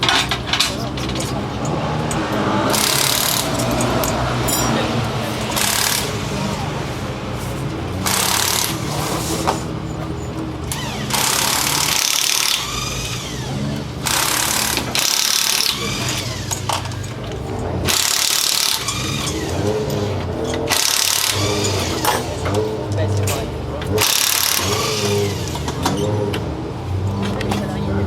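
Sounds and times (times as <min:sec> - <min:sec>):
loud harsh engine surges: 0:00.0 - 0:28.0
rally car engine revving: 0:00.0 - 0:28.0.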